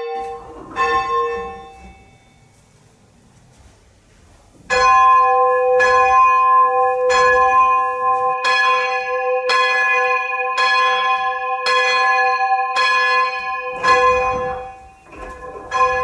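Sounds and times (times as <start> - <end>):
church bell ringing: 0.0 - 2.6, 4.6 - 16.0.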